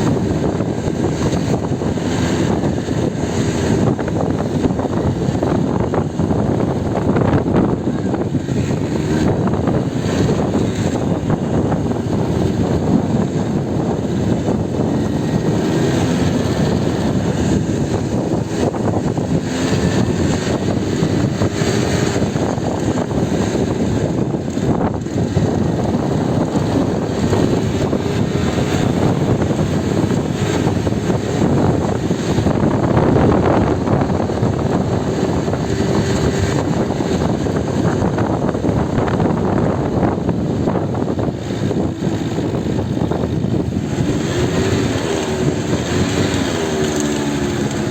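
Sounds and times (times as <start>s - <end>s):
churning sea: 0.0s - 47.9s
wind buffeting microphone: 0.0s - 47.9s.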